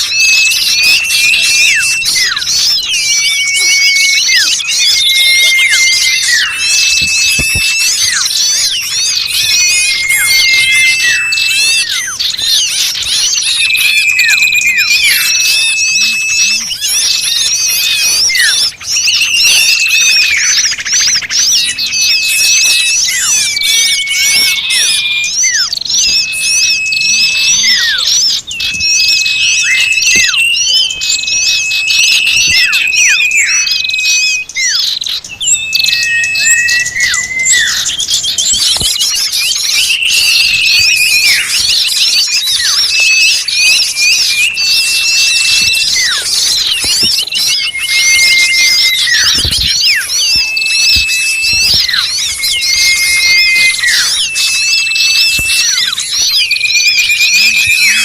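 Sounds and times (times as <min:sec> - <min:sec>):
long whistled bird notes: 0:00.0 - 0:58.0
small birds chirping rapidly: 0:00.0 - 0:58.0.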